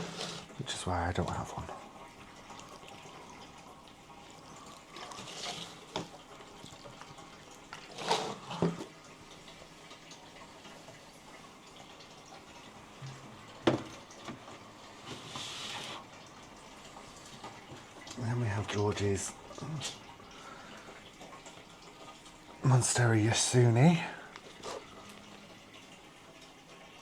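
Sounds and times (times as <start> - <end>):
water pouring: 0.0 - 27.0.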